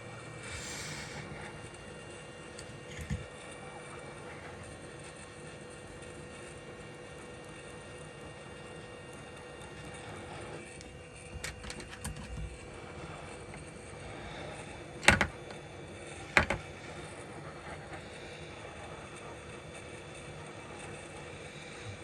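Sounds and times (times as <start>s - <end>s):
hot-air station hissing: 0.0s - 22.0s.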